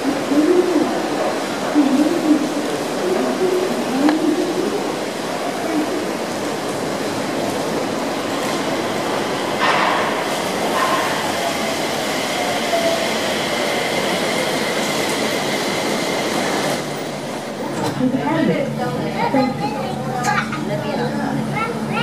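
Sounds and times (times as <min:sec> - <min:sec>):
light-rail car whine slowing: 0:00.0 - 0:18.2.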